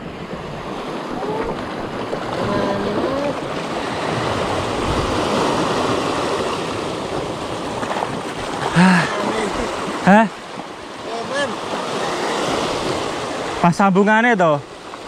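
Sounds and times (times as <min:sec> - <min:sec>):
waves washing over rocks: 0:00.0 - 0:15.0.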